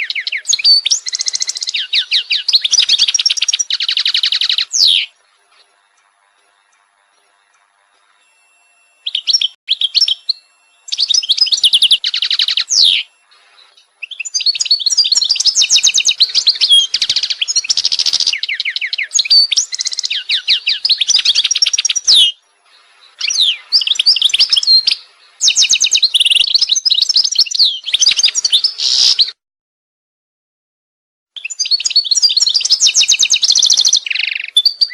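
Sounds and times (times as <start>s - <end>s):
songbird trilling and chirping: 0.0s - 29.4s, 31.4s - 34.9s.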